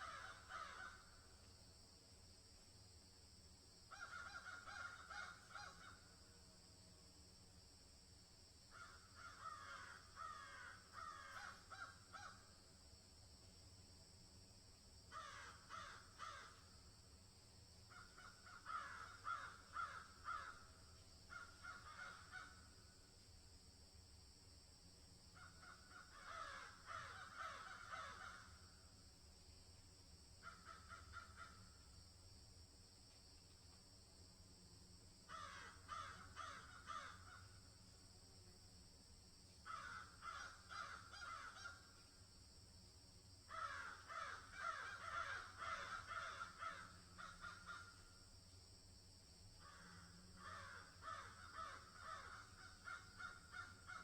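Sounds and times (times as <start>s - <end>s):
steady high-pitched hiss: 0.0s - 54.0s.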